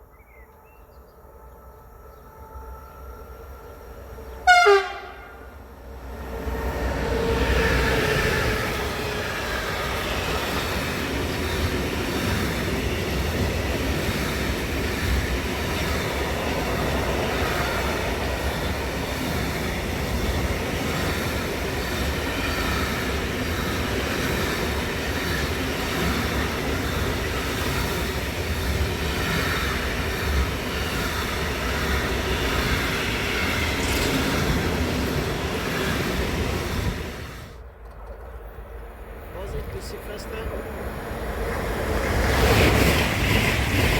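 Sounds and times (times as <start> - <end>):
train wheels rushing on rails: 2.2 - 43.9.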